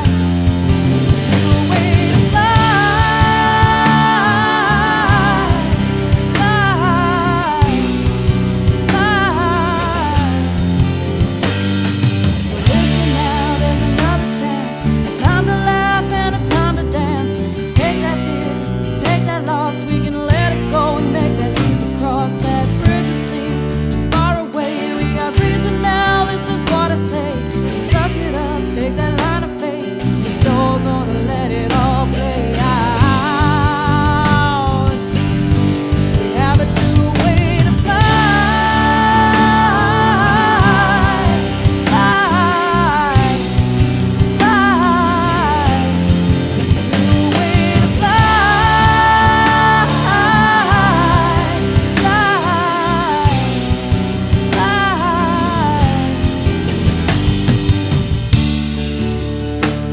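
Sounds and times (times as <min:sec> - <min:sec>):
person singing: 0:00.0 - 0:11.6, 0:12.3 - 0:57.4
guitar: 0:00.0 - 0:59.9
rock-pop song with vocals: 0:00.0 - 0:59.9.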